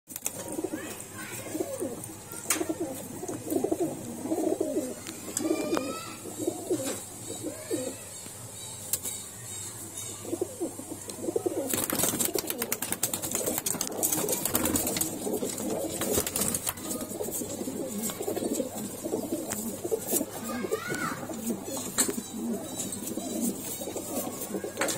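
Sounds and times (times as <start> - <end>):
pigeons cooing: 0.3 - 8.1, 9.9 - 24.9.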